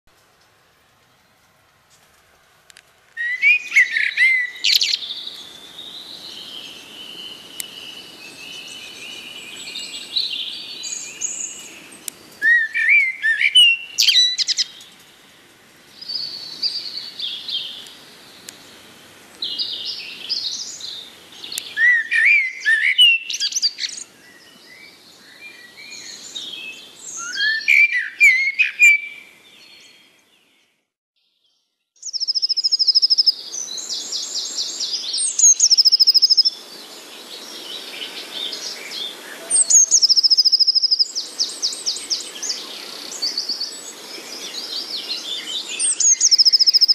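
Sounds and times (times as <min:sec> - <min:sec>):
bird chirping: 0:03.2 - 0:15.0, 0:19.4 - 0:46.9.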